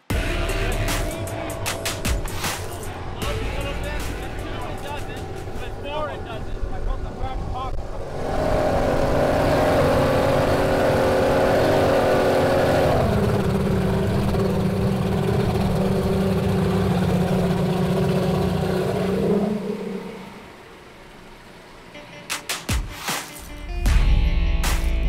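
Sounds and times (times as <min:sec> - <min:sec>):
outboard engines running: 0:00.0 - 0:22.0.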